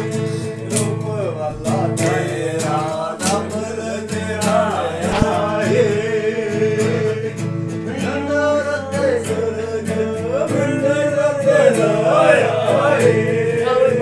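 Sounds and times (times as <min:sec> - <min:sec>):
acoustic guitar strumming: 0:00.0 - 0:14.0
man singing folk song: 0:00.0 - 0:14.0.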